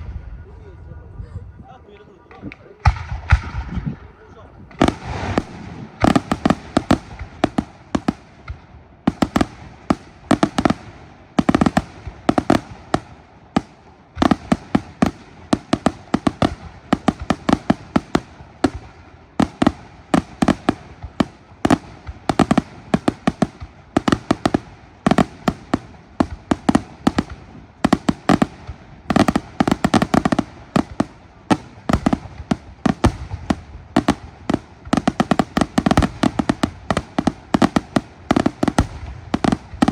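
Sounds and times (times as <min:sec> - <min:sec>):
fireworks bursting with sharp bangs: 0:02.2 - 0:39.9.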